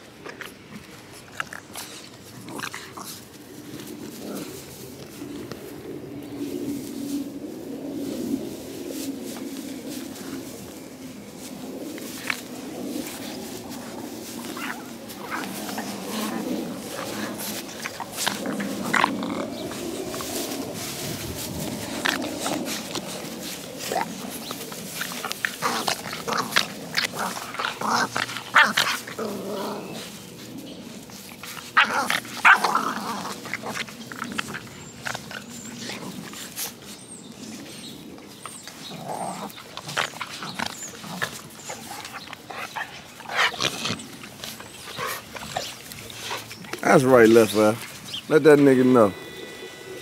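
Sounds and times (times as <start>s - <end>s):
scuffling in dry grass: 0.0s - 50.0s
puppies growling and yelping: 8.0s - 48.3s.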